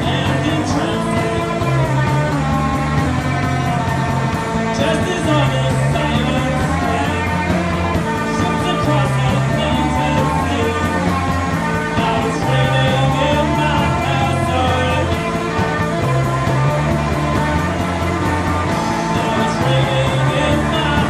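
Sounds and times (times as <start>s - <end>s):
bass guitar long held notes: 0.0s - 21.0s
rock band playing live: 0.0s - 21.0s.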